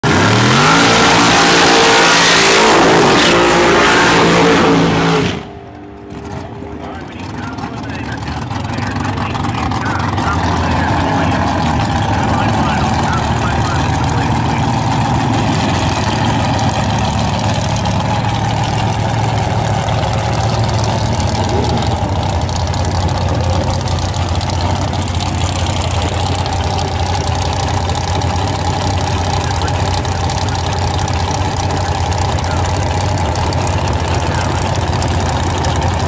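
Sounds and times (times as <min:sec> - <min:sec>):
dragster engine idling loudly: 0:06.0 - 0:36.0.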